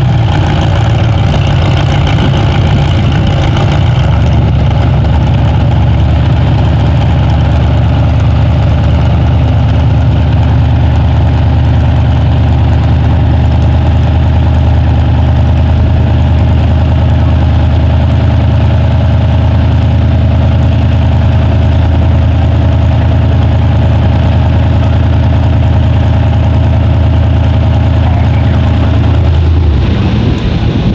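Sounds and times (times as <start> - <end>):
loud engine idling: 0.0 - 30.9.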